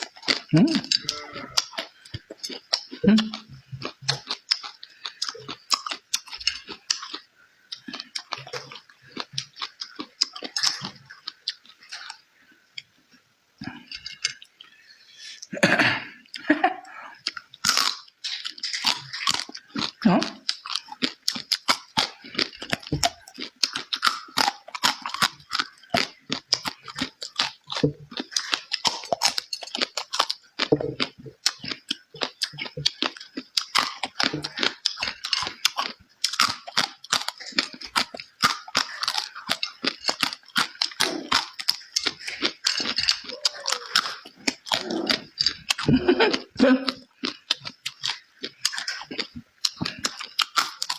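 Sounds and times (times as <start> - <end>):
wet chewing and crunching food: 0.0 - 50.9.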